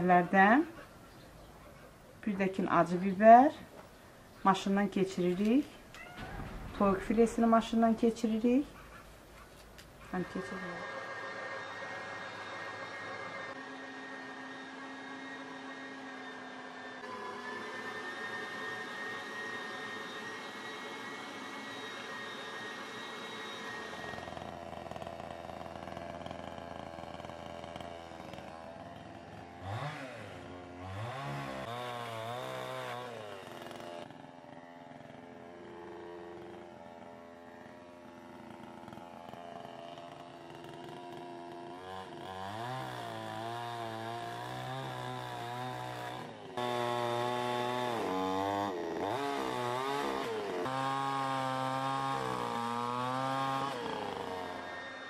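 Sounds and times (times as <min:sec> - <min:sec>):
chainsaw revving and cutting log: 0:00.0 - 0:55.0.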